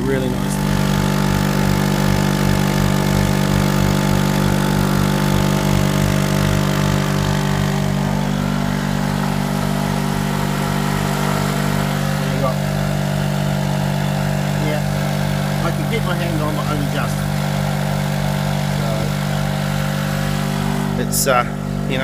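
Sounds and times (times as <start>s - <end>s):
petrol generator running: 0.0s - 22.0s.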